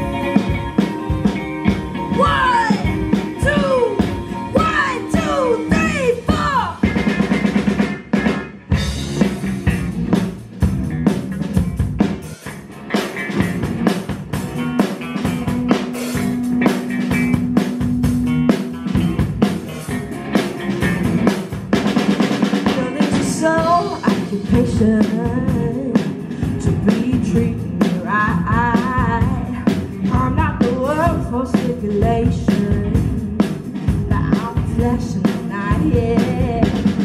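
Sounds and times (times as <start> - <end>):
drum kit snare and bass drum: 0.0 - 37.0
rock band playing: 0.0 - 37.0.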